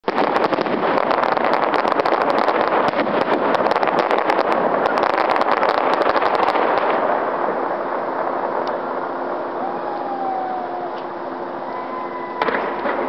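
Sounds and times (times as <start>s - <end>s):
fireworks crackling and popping: 0.0s - 13.0s
steady wash of noise: 0.1s - 13.0s.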